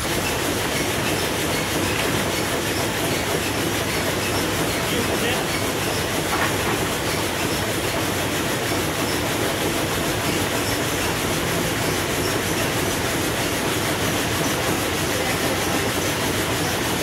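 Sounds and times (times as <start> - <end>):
sawmill machinery running: 0.0 - 17.0.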